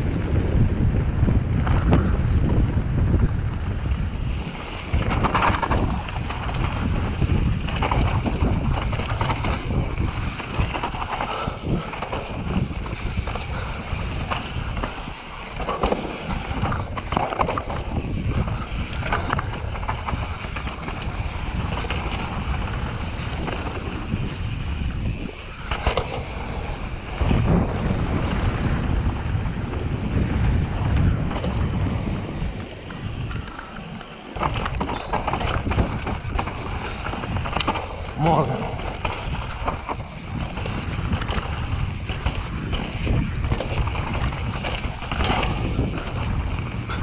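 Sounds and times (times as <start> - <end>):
bike knocks and rattles: 0.0 - 47.0
tyres rumbling on dirt: 0.0 - 47.0
wind buffeting microphone: 0.0 - 47.0.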